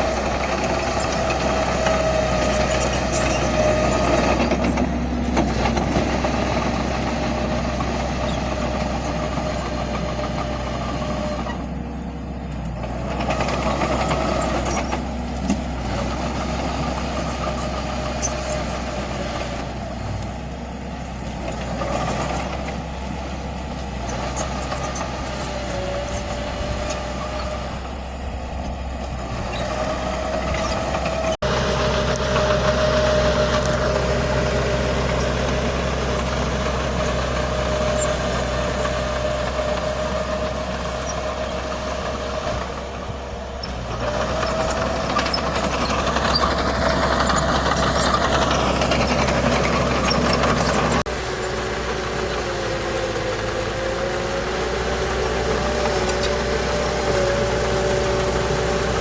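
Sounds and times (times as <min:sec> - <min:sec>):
diesel machinery engine drone: 0:00.0 - 0:59.0
engine whine: 0:00.0 - 0:59.0.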